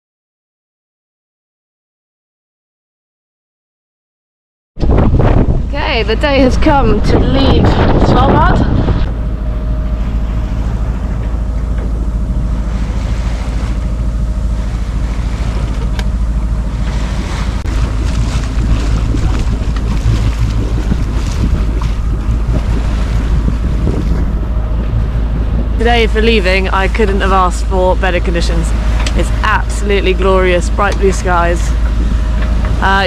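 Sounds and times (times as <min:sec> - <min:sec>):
water rushing along hull: 0:04.8 - 0:33.0
wind buffeting microphone: 0:04.8 - 0:33.0.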